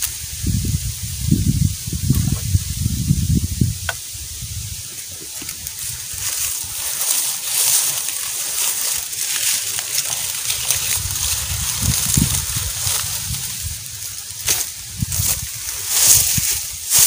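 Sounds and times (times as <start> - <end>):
dry leaves and sticks crackling: 0.0 - 17.0.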